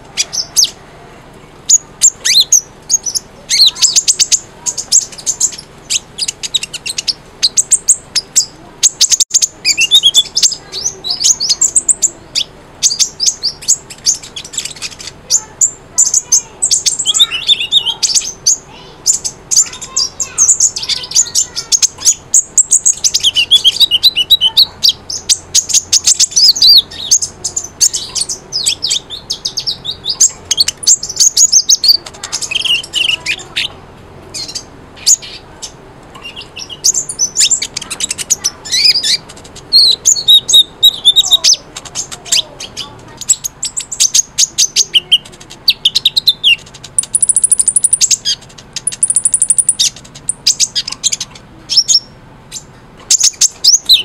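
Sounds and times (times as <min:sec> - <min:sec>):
bird chirping and trilling: 0:00.0 - 0:00.9, 0:01.6 - 0:54.0.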